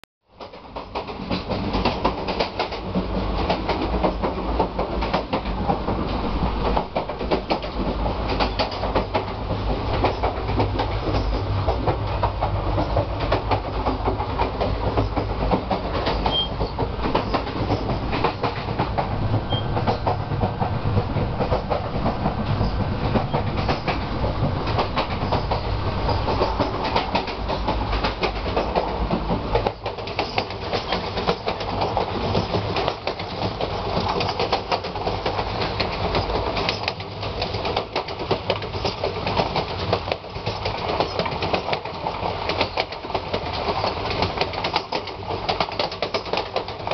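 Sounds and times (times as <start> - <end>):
deep train rumble: 0.3 - 46.9
train wheels clattering on track: 0.3 - 46.9.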